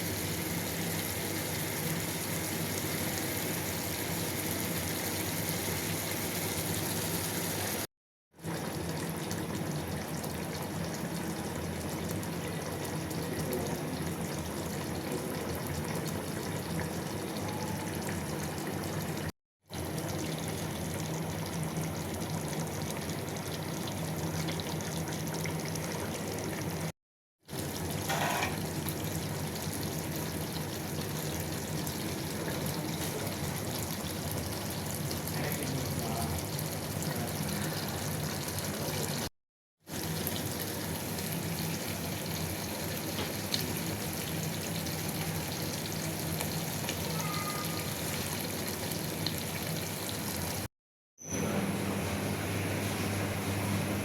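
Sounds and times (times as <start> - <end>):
curry sizzling in a pan: 0.0 - 26.9, 27.5 - 39.3, 39.9 - 53.8.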